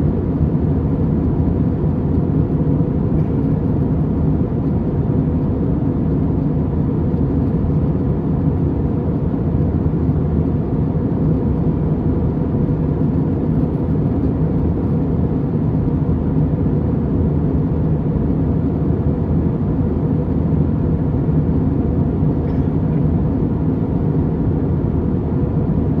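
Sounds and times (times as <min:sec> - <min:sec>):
airliner cabin engine drone: 0:00.0 - 0:26.0.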